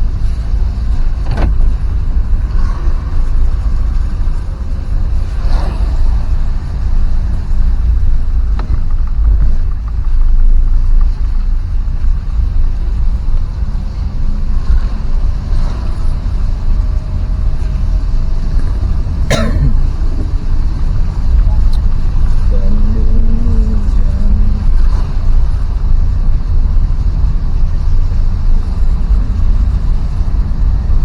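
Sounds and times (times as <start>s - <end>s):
vehicle rumble on road: 0.0s - 31.0s
wind on microphone: 0.0s - 31.0s.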